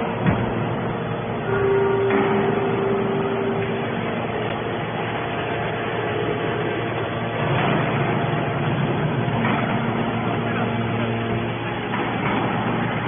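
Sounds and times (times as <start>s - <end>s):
hydraulic baler humming: 0.0s - 13.0s.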